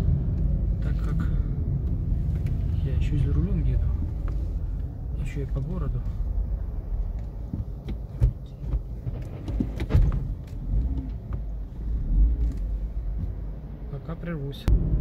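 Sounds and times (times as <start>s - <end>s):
car engine and tyres rumble: 0.0s - 15.0s.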